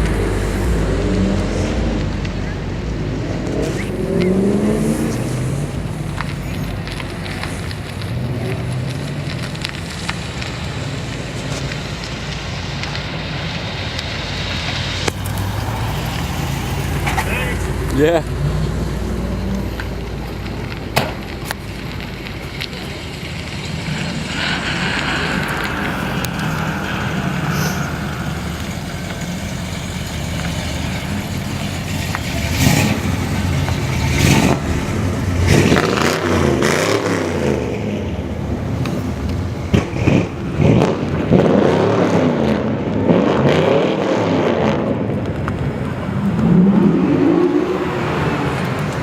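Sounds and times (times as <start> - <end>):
car engines revving and accelerating: 0.0 - 49.0.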